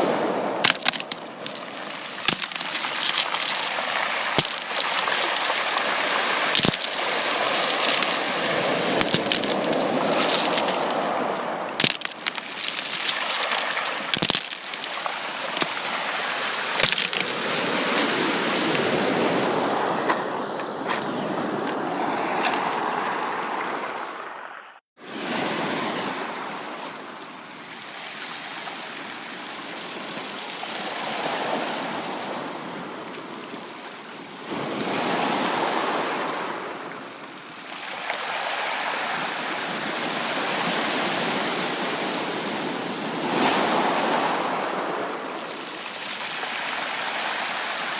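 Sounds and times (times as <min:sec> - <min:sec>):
waves breaking on beach: 0:00.0 - 0:47.9.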